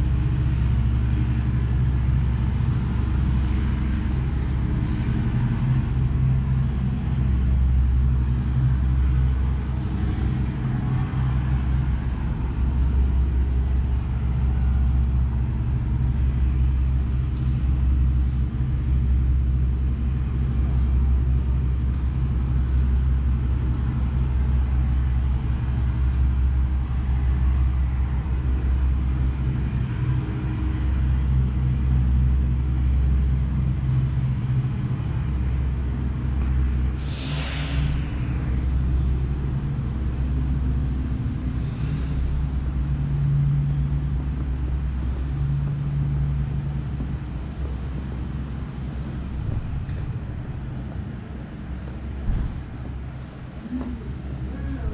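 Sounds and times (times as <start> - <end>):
street traffic rumble: 0.0 - 54.9.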